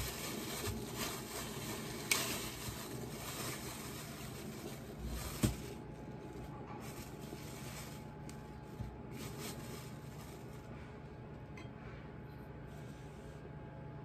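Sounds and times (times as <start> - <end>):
plastic and leaf wrapping rustling: 0.0 - 11.3.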